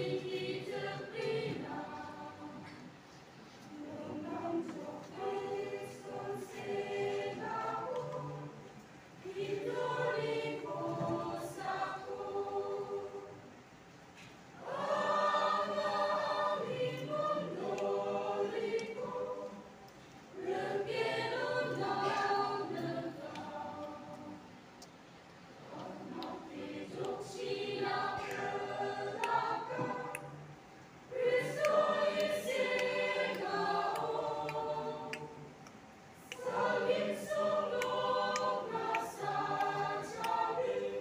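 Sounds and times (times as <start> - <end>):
mixed choir singing: 0.0 - 13.8, 14.6 - 24.9, 25.5 - 41.0.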